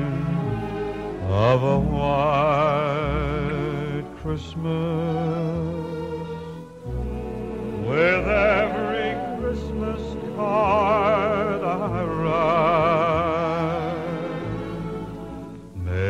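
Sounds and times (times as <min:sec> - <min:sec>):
slow melody with vibrato: 0:00.0 - 0:16.0.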